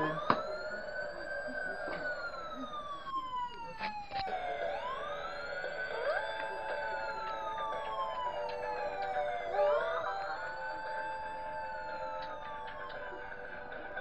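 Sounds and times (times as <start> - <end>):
toy siren-like whistle: 0.0 - 14.0.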